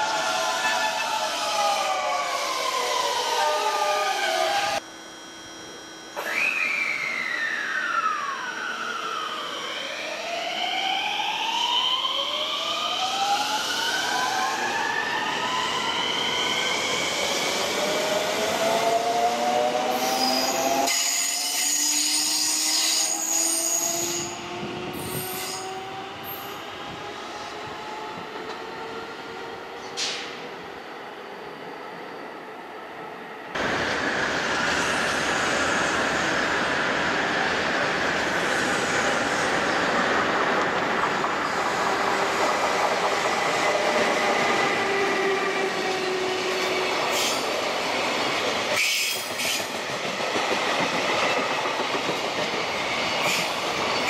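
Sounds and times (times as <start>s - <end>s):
rail noise: 5.6s - 54.0s.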